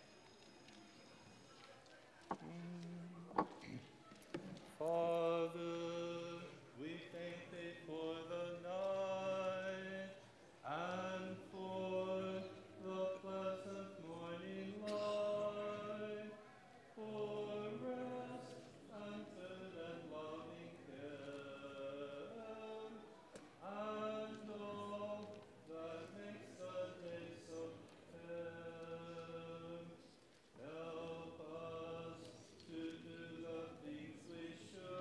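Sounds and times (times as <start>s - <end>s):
congregation singing a hymn: 4.8s - 35.0s.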